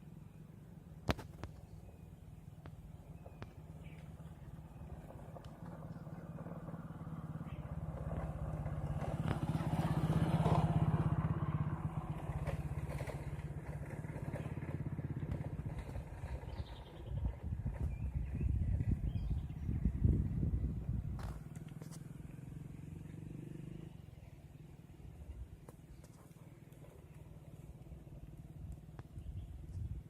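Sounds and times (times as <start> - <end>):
vehicle engine passing by: 3.1 - 28.7.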